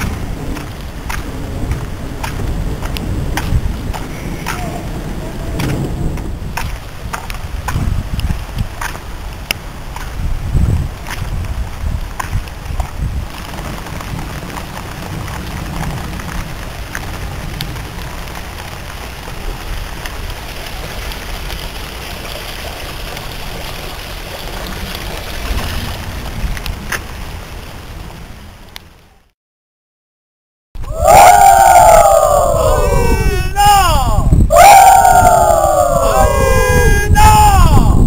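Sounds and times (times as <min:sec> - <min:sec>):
heavy rain on pavement: 0:00.0 - 0:29.3, 0:30.8 - 0:38.0.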